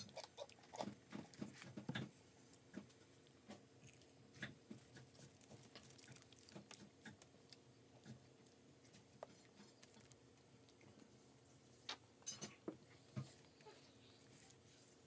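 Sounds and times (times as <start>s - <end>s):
low steady hum: 0.0s - 15.0s
soft chewing and mouth clicks: 0.0s - 15.0s.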